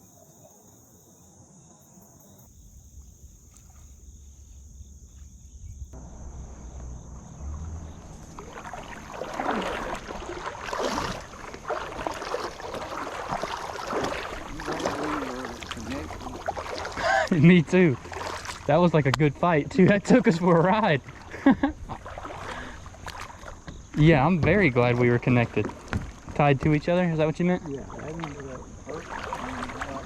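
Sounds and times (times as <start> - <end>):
high insect chorus: 0.0 - 30.0
water splashing around kayak: 2.4 - 30.0.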